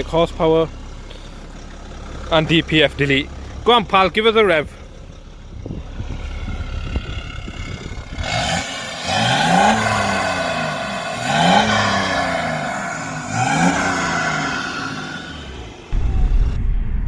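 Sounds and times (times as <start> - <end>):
diesel car engine revving: 0.0 - 16.6.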